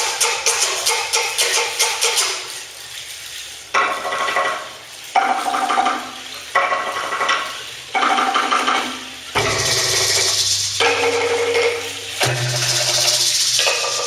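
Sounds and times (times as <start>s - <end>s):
rattling hissing percussion strikes: 0.0s - 14.0s.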